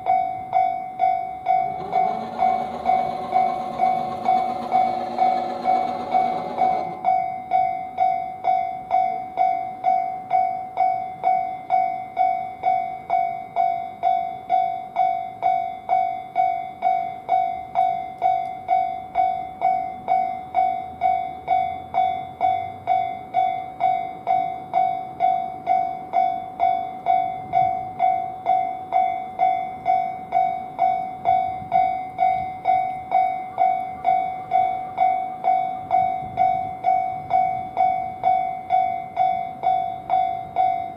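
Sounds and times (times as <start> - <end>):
level-crossing warning bell: 0.0 - 40.9.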